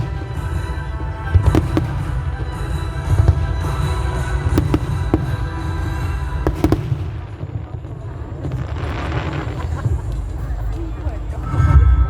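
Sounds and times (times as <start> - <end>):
fireworks crackle and hiss: 0.0 - 11.5
fireworks bangs: 0.0 - 11.6.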